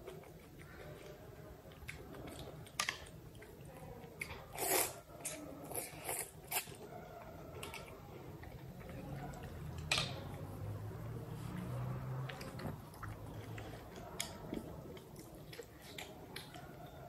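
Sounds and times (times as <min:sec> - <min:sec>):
chewing and slurping noodles: 0:01.7 - 0:09.8, 0:11.0 - 0:17.0.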